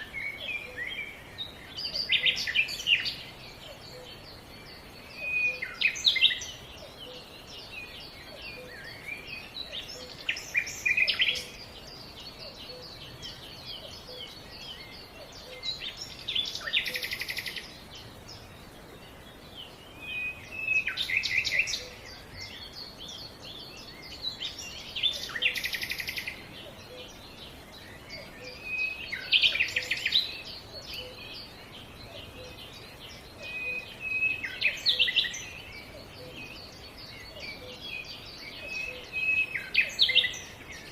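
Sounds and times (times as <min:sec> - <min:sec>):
faint outdoor background: 0:00.0 - 0:40.9
songbird singing with trill: 0:00.0 - 0:40.9.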